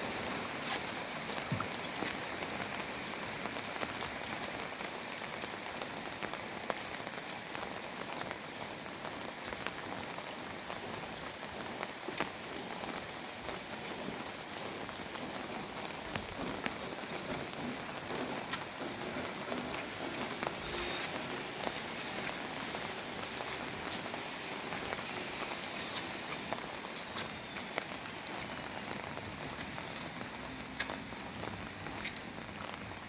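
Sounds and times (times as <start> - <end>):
rain drops ticking: 0.0 - 33.0
steady rain falling: 0.0 - 33.0.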